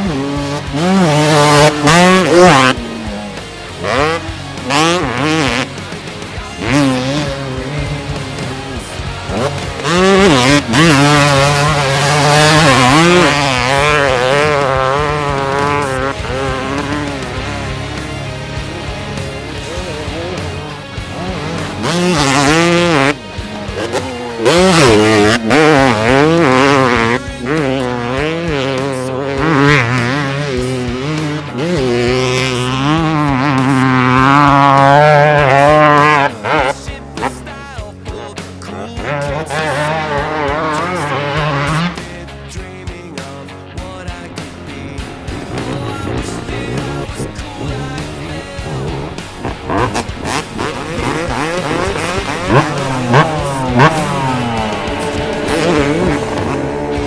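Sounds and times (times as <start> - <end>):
background music: 0.0 - 57.0
dirt bike engine running hard: 0.0 - 57.0.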